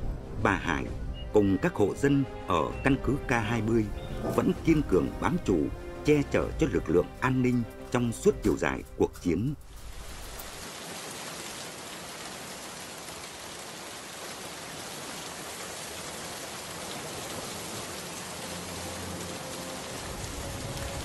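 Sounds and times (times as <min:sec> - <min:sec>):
steady rain hiss: 0:01.5 - 0:21.0.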